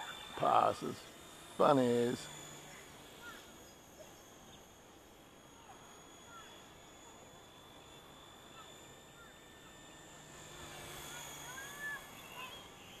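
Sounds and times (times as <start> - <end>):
rc helicopter whine: 0.0 - 13.0.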